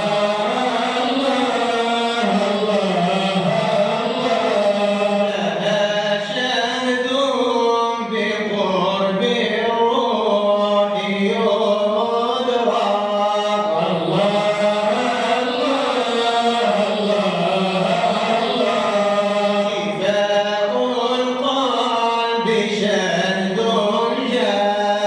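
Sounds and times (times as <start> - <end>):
men chanting together: 0.0 - 25.0.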